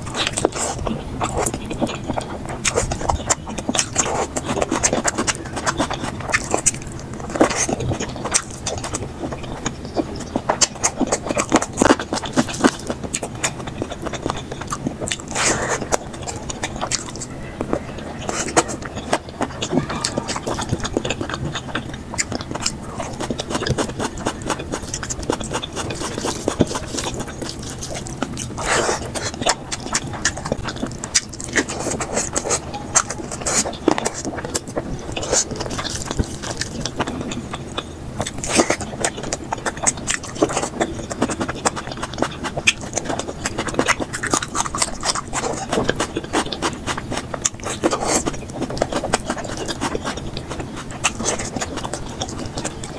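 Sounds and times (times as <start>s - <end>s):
rapid chewing and lip-smacking: 0.0s - 52.9s.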